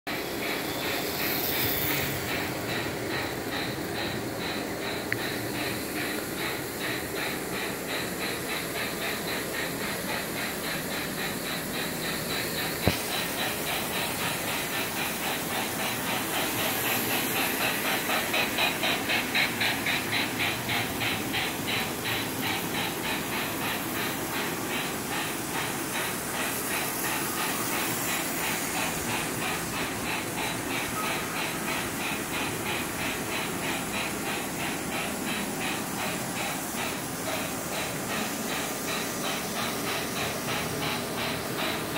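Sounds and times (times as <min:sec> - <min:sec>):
model trains clattering on track: 0:00.1 - 0:41.9
toy steam train chuffing: 0:00.1 - 0:41.9.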